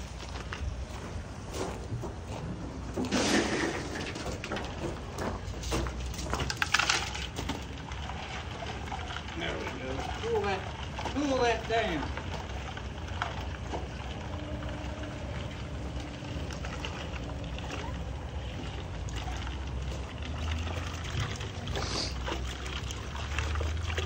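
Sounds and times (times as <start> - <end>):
propane burner rumble: 0.0 - 24.0
water splashing: 0.0 - 24.0
water running into a bucket: 3.0 - 24.0.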